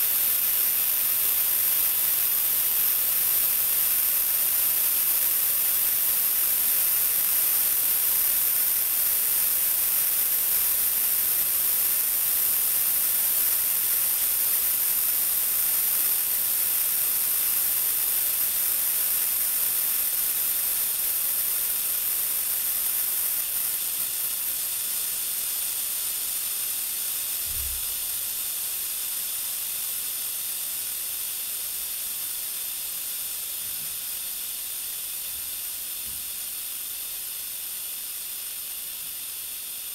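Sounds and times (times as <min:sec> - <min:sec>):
compressed air hissing: 0:00.0 - 0:39.9.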